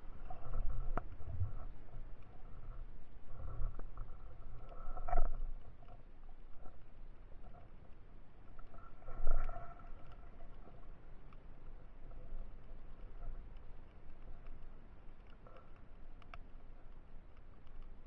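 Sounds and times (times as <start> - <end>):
muffled underwater water noise: 0.0 - 18.0
faint clicks: 0.2 - 18.0.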